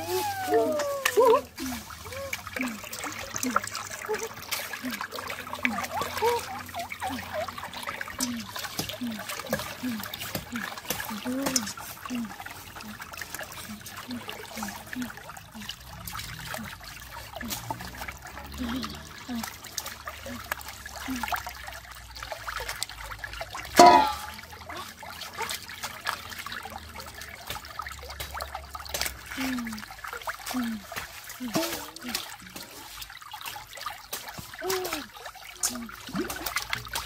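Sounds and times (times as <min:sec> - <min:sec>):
stream trickling over rocks: 0:00.0 - 0:37.0
water splashing: 0:00.0 - 0:37.0.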